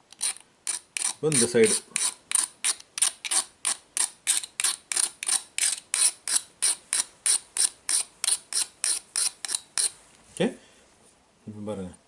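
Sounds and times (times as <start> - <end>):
metal file scraping steel blade: 0.2 - 10.0.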